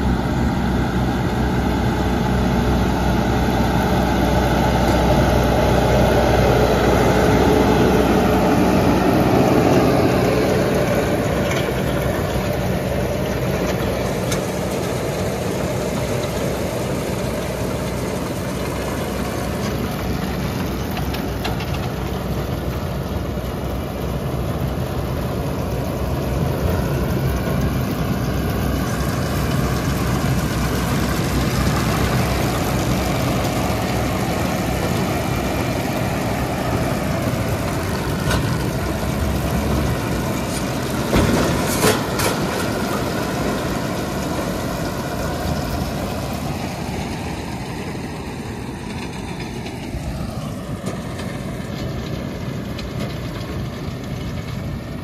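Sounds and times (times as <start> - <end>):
baler machinery running: 0.0 - 55.0
tractor diesel engine under load: 0.0 - 55.0.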